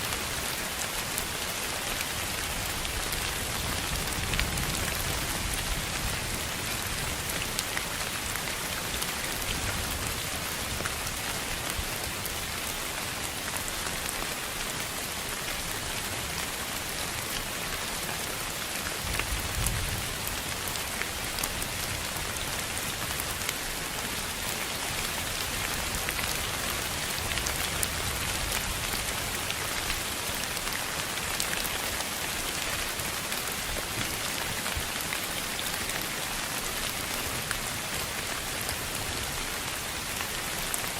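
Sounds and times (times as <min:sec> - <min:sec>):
steady hiss like rain: 0:00.0 - 0:40.9.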